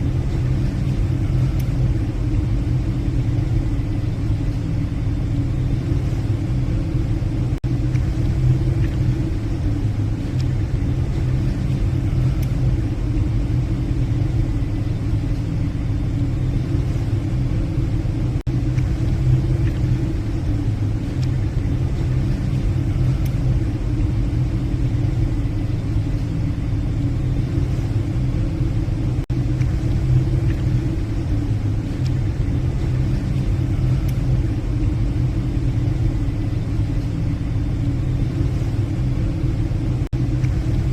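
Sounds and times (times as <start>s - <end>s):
ship engines humming: 0.0s - 40.9s.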